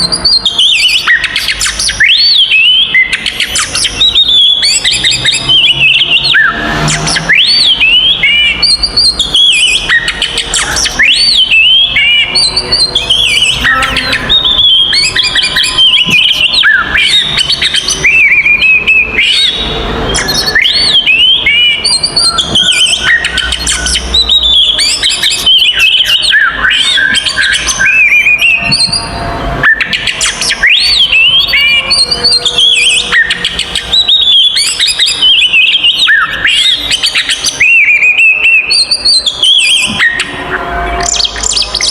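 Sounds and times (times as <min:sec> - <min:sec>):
bird singing whistles and trills: 0:00.0 - 0:41.9.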